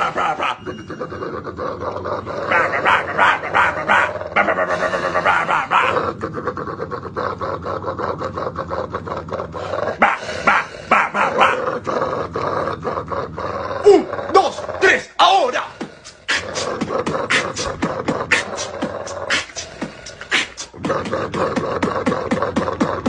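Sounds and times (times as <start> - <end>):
dog grunting rhythmically: 0.0 - 23.0.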